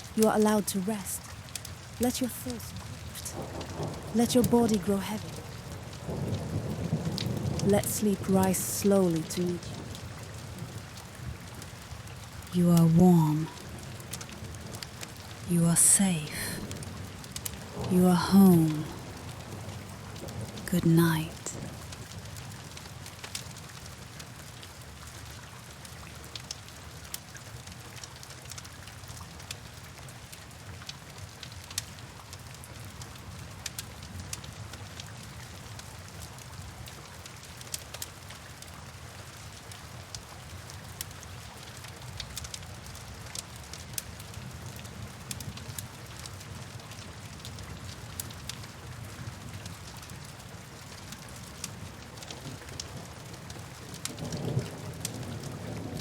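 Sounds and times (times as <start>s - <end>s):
steady rain: 0.0s - 56.0s
wood fire crackling: 0.0s - 56.0s.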